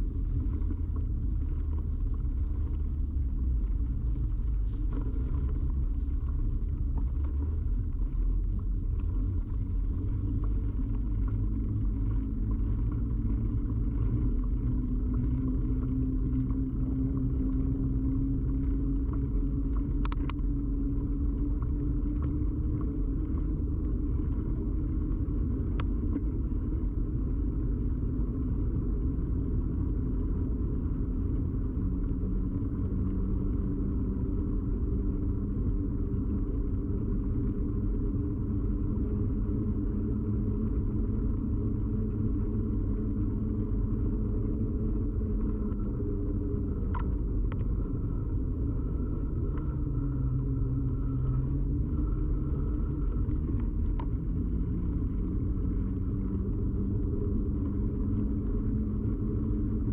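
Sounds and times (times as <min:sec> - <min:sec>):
bicycle road rumble: 0:00.0 - 0:59.9.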